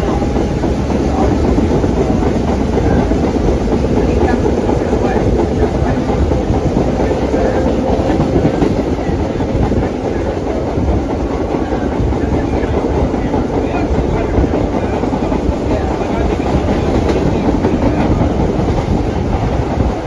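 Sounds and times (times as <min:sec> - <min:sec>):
subway train wheels on rails: 0:00.0 - 0:20.0.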